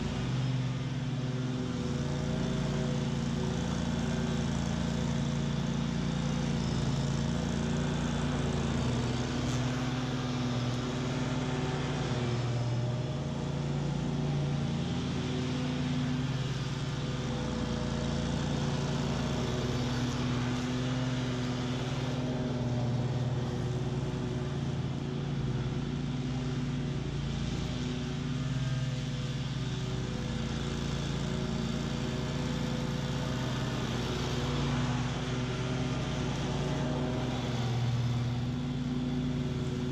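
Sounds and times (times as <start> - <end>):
blades cutting weeds: 0.0 - 39.9
stand-on mower engine: 0.0 - 39.9.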